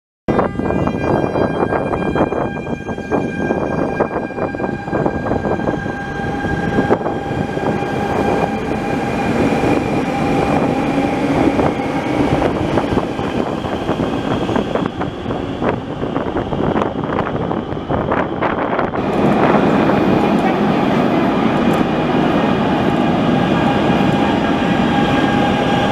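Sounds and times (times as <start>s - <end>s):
electric train whine: 0.3s - 25.9s
train wheels rumbling on rails: 0.3s - 25.9s.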